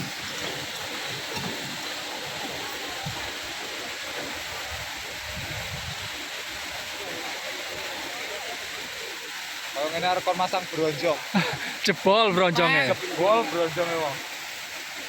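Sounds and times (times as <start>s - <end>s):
water rushing through a dam: 0.0s - 15.0s.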